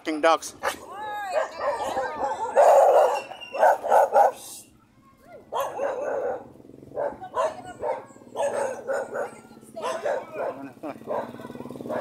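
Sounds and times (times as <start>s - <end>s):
dogs barking: 0.6s - 4.4s, 5.4s - 12.0s.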